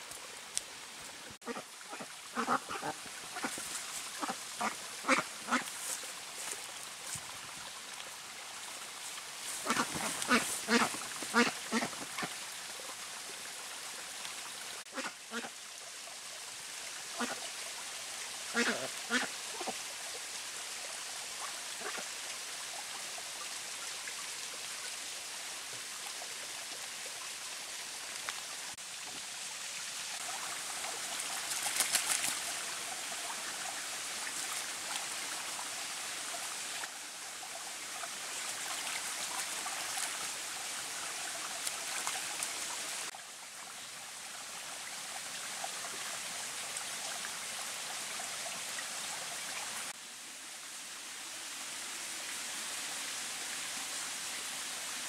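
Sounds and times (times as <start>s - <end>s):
stream running and trickling: 0.0s - 55.0s.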